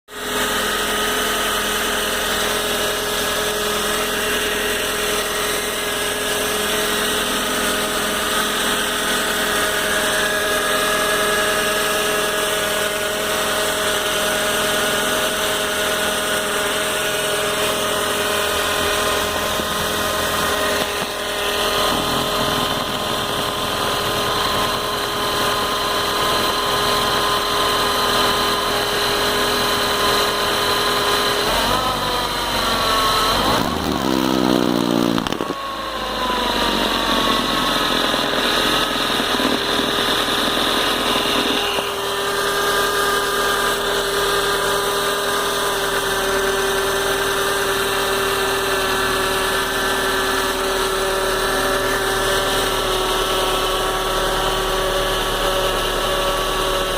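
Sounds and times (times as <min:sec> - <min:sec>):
car engine running: 0:00.2 - 0:56.9
steady whining tones: 0:01.5 - 0:56.9.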